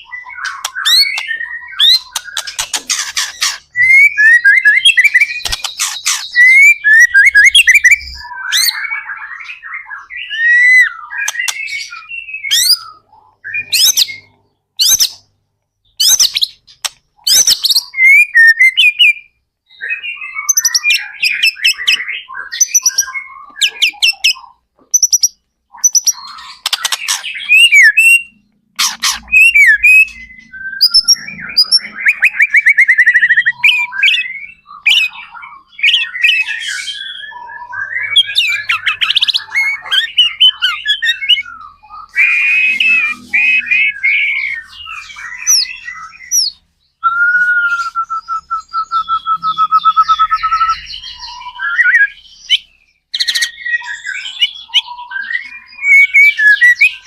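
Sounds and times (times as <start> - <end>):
bird singing rapid whistled phrases: 0.0 - 57.0.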